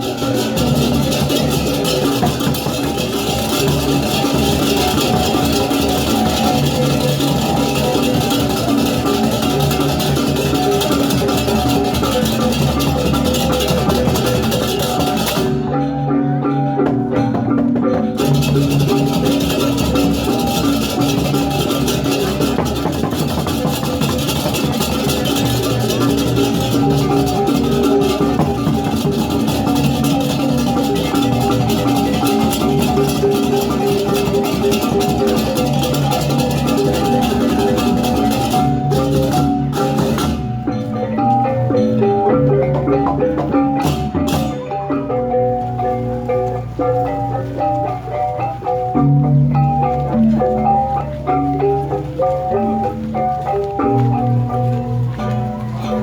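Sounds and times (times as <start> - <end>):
drums playing: 0.0 - 56.0
metal mallet percussion: 0.0 - 56.0.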